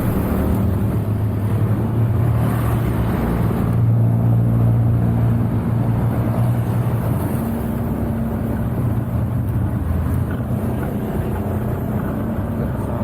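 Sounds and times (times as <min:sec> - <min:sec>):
road noise: 0:00.0 - 0:13.0
vehicle engine droning: 0:00.0 - 0:13.0.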